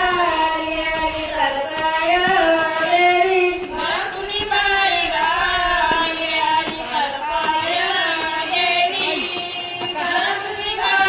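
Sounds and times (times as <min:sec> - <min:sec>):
women singing work song: 0:00.0 - 0:11.0.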